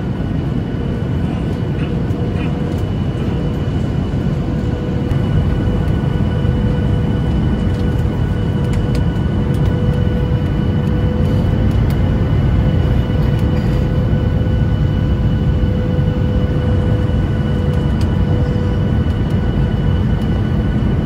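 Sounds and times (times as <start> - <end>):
jet engine cabin rumble: 0.0 - 21.0
mid-pitched whine: 0.0 - 21.0.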